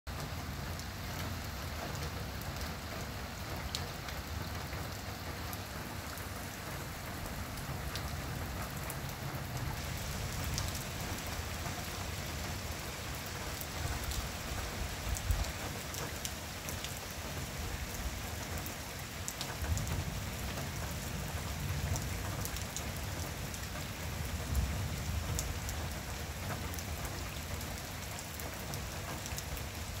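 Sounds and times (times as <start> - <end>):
torrential rain pouring: 0.1 - 30.0.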